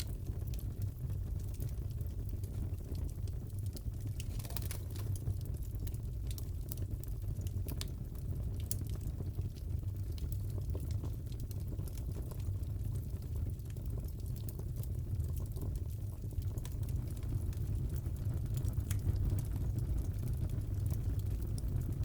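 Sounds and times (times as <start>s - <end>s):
fire burning rumble: 0.0s - 22.0s
fire pops and crackles: 0.0s - 22.0s.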